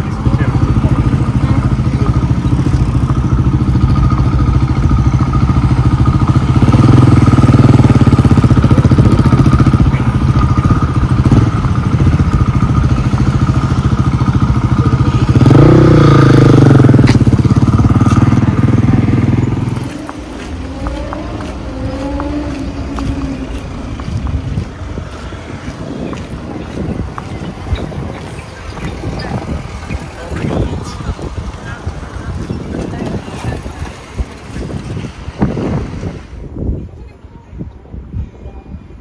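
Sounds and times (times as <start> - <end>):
vehicle passing: 0.0 - 36.5
road traffic noise: 0.0 - 39.0.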